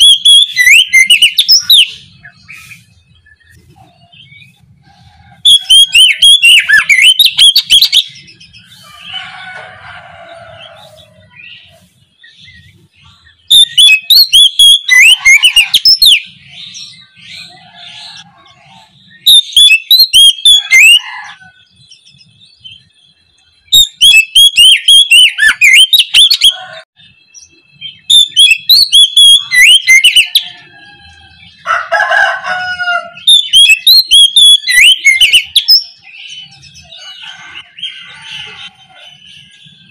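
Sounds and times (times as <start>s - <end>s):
bird singing rapid high notes: 0.0s - 4.7s, 5.4s - 9.4s, 10.3s - 21.0s, 21.8s - 31.7s, 33.2s - 39.9s
softer lower bird sounds: 0.0s - 39.9s.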